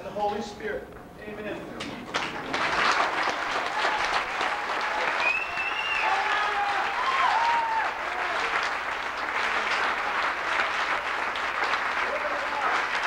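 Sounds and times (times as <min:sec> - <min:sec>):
congregation clapping: 0:01.8 - 0:13.0.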